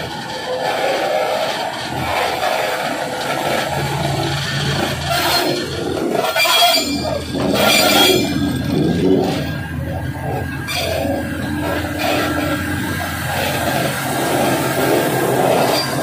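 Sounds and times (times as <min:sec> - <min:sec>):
diesel engine running: 0:00.0 - 0:16.0
machine rolling on rails: 0:00.0 - 0:16.0.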